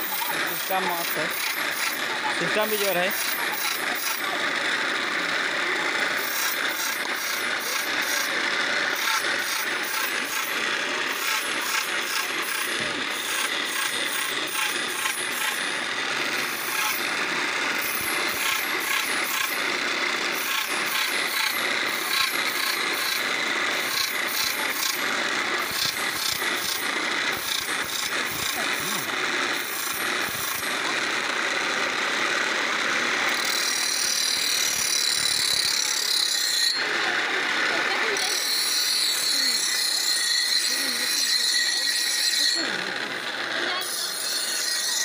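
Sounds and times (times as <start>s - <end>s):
grinding wheel sharpening metal blade: 0.0s - 45.0s.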